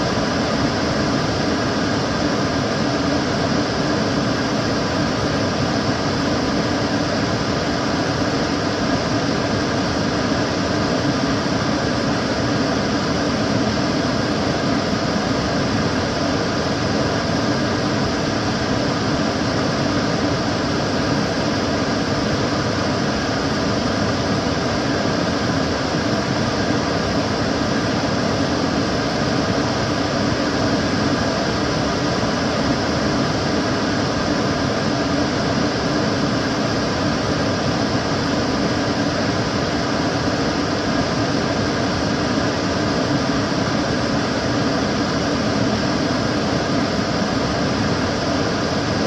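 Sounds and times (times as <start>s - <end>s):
extractor fan running: 0.0s - 49.0s
faint steady hum: 0.0s - 49.0s.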